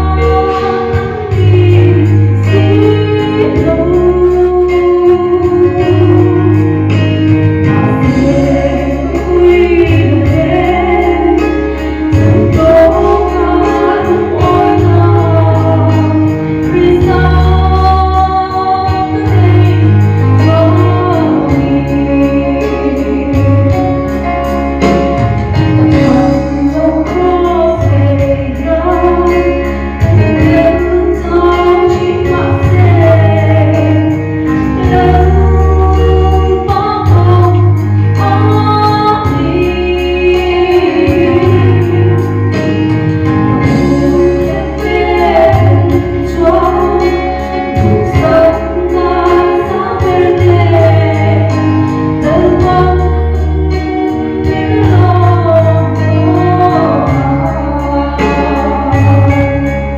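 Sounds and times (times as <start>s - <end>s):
woman singing: 0.0s - 24.3s, 25.4s - 59.9s
band with pulsing bass: 0.0s - 59.9s.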